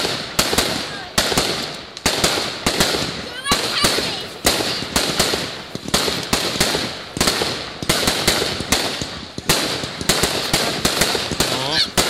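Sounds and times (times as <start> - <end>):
continuous hiss: 0.0 - 12.0
fireworks bangs: 0.0 - 12.0.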